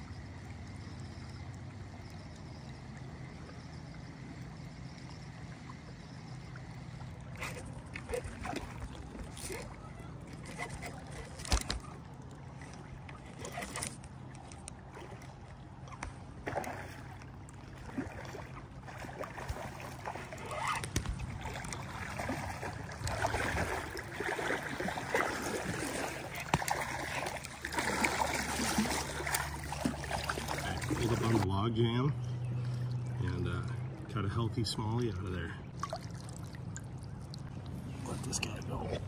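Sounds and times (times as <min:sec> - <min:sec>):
water sloshing and splashing: 0:00.0 - 0:31.6, 0:32.2 - 0:39.0.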